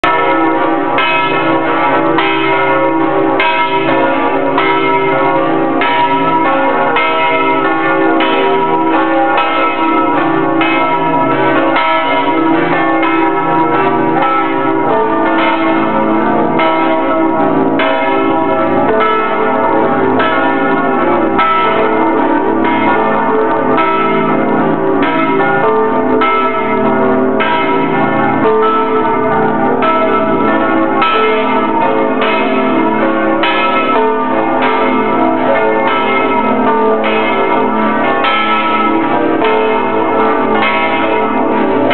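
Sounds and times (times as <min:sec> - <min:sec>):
large bells ringing: 0:00.0 - 0:41.9.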